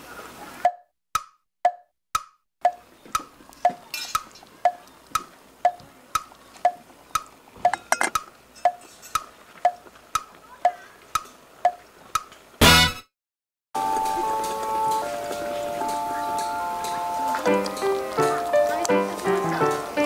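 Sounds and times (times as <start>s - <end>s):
clock ticking: 0.6s - 12.3s, 14.0s - 19.9s.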